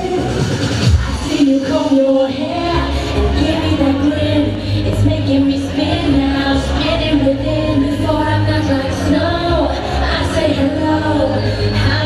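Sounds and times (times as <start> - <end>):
eurodance track with heavy bass: 0.0 - 12.0
woman singing into microphone: 0.0 - 12.0.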